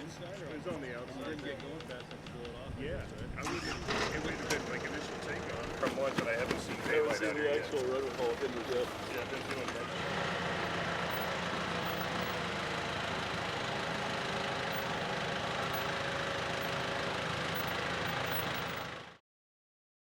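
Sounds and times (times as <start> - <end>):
engine droning: 0.0 - 19.2.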